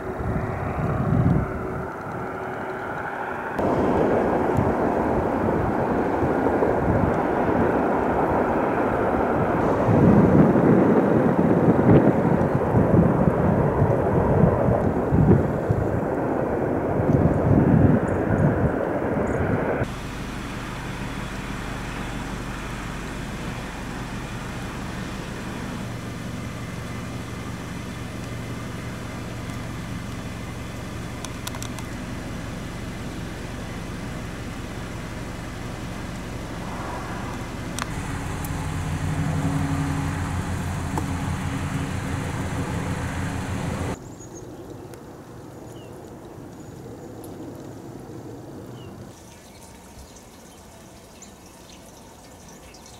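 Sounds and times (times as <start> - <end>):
engine hum: 0.0 - 44.0.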